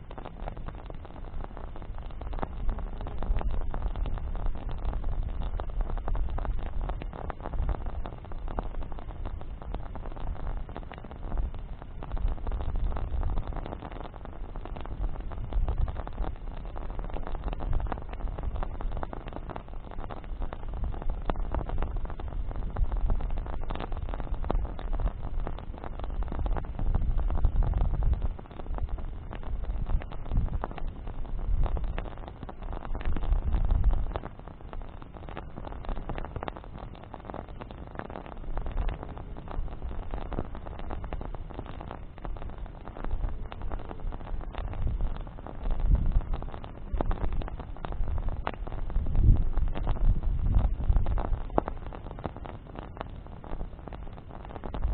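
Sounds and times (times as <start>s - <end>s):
bonfire crackling and popping: 0.0s - 54.9s
low fire rumble: 0.0s - 54.9s.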